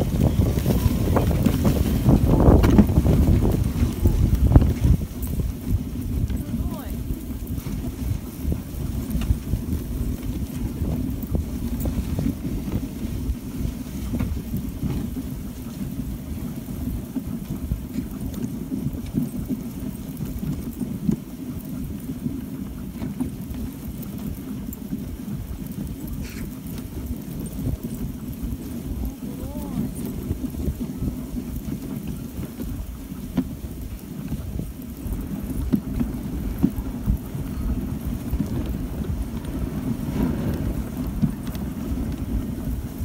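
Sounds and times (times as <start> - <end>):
sled runners rumbling on snow: 0.0 - 43.0
wind on microphone: 0.0 - 43.0.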